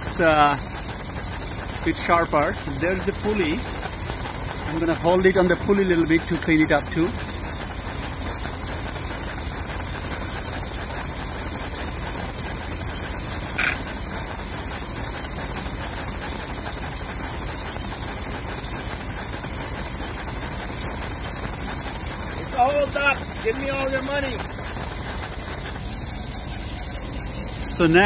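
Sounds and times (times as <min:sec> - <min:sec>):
engine running: 0:00.0 - 0:17.2, 0:17.9 - 0:28.0
drive belt squealing: 0:00.0 - 0:28.0.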